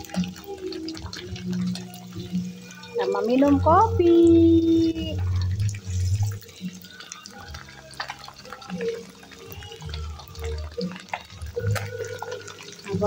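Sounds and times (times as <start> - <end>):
oil sizzling with pops: 0.0 - 13.0.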